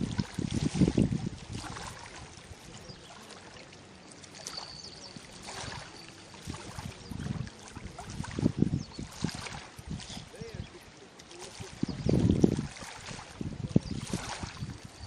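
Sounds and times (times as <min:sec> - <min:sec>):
wind buffeting microphone: 0:00.0 - 0:03.3, 0:04.8 - 0:15.0
rushing water: 0:00.0 - 0:15.0.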